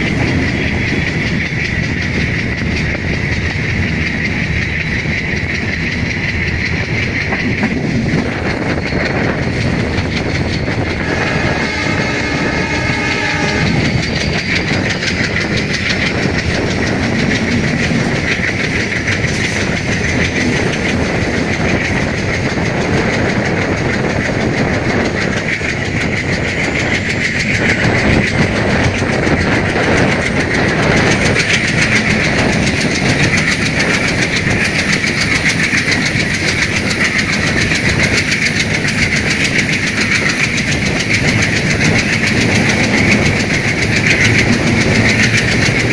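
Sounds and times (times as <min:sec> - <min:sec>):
wheels clicking on rail joints: 0:00.0 - 0:45.9.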